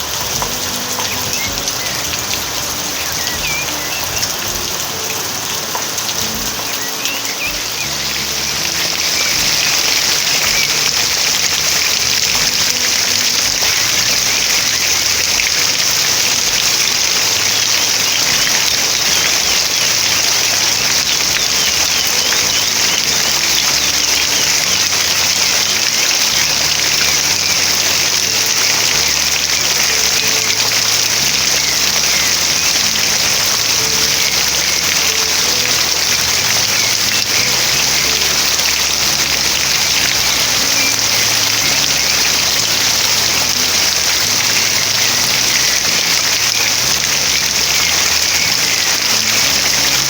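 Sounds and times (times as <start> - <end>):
steady rain hissing: 0.0 - 50.0
small birds chirping: 0.2 - 50.0.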